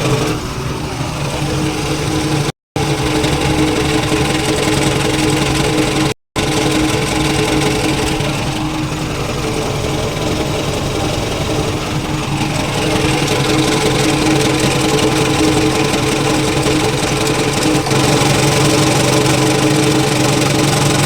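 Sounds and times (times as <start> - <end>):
pickup engine idling: 0.0 - 21.0.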